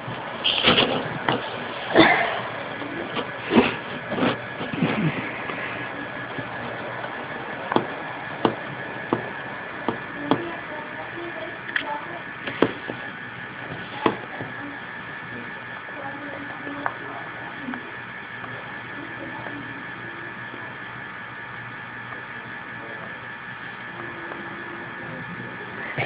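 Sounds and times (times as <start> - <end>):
model train electric hum: 0.0 - 26.0.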